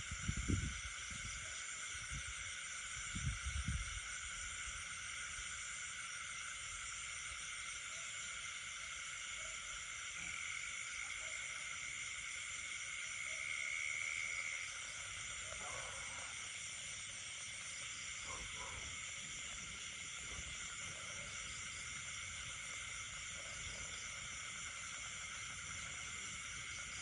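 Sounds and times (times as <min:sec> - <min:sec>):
frogs and insects trilling: 0:00.0 - 0:27.0.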